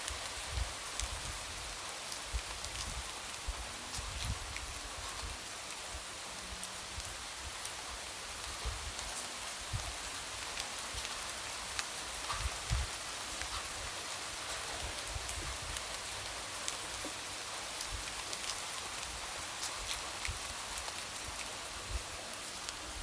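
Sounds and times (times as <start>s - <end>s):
light rain hiss: 0.0s - 23.0s.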